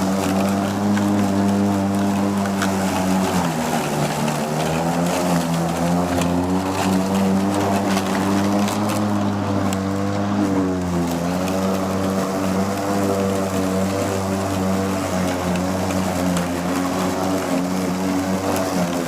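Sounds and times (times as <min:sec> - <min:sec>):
electric lawn mower running: 0:00.0 - 0:19.0.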